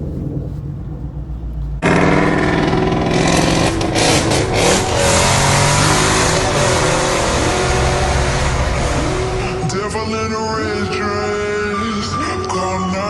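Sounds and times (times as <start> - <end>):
engine exhaust rumbling and revving: 0.0 - 13.0.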